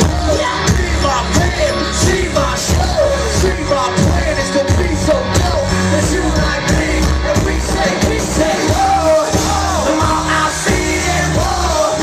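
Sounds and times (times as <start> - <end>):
heavy bass: 0.0 - 12.0
live band playing loud: 0.0 - 12.0
steady drumbeat: 0.0 - 12.0.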